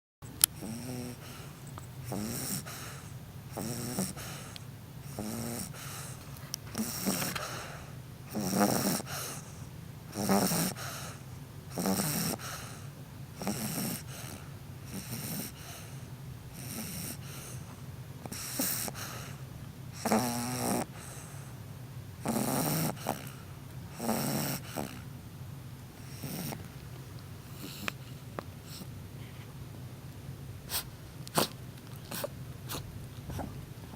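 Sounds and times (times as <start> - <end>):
dog snoring: 0.5 - 21.6, 22.2 - 25.1, 26.0 - 28.9, 30.7 - 33.6.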